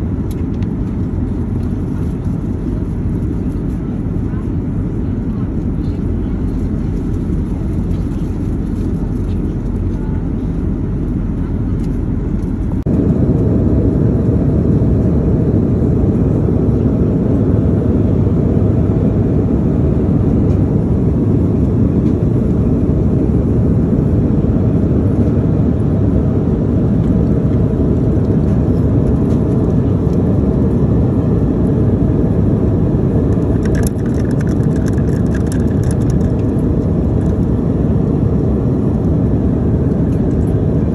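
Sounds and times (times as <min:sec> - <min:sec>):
airliner engines and airflow rumble: 0:00.0 - 0:40.9.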